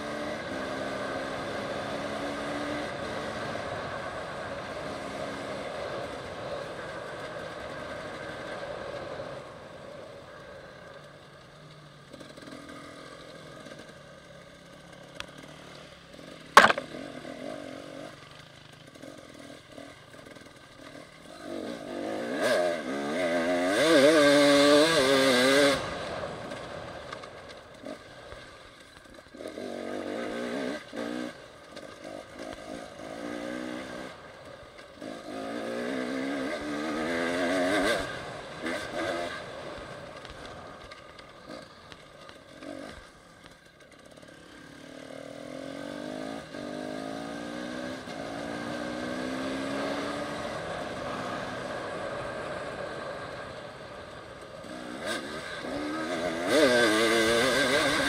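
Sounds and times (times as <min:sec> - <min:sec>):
dirt bike engine revving: 0:00.0 - 0:06.1, 0:14.7 - 0:26.8, 0:29.0 - 0:58.0.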